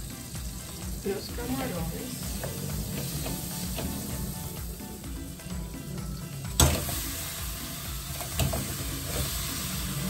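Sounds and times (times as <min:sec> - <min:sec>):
shrimp sizzling in a pan: 0:00.0 - 0:10.0.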